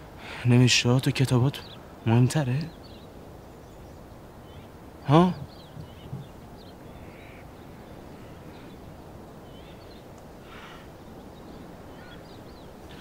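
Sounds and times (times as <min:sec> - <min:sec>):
faint small birds chirping: 0:00.0 - 0:13.0
low background rumble: 0:00.8 - 0:13.0.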